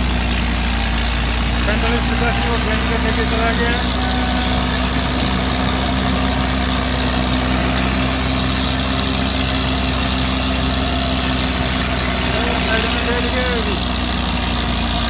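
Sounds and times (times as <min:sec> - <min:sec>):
tractor diesel engines under load: 0:00.0 - 0:15.0.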